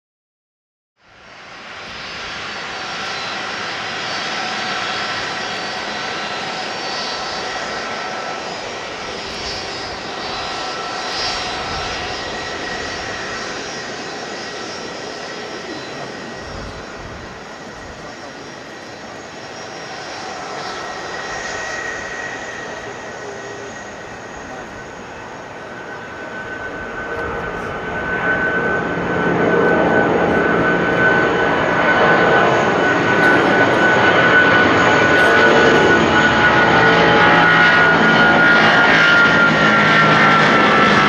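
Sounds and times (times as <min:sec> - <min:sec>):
jet engines at takeoff: 0:01.0 - 0:41.0.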